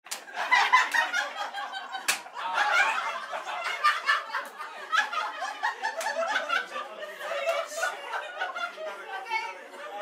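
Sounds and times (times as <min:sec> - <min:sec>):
people laughing and chattering: 0:00.1 - 0:10.0.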